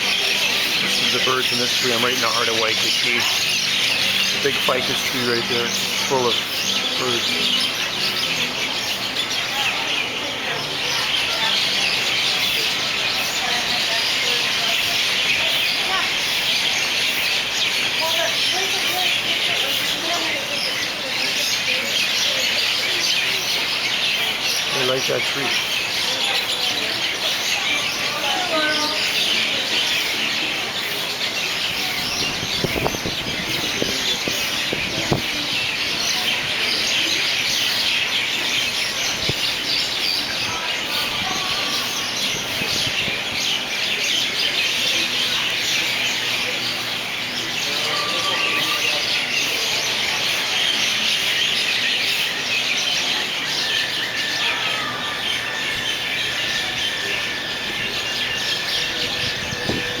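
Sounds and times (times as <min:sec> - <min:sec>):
flock of birds chirping: 0:00.0 - 1:00.0.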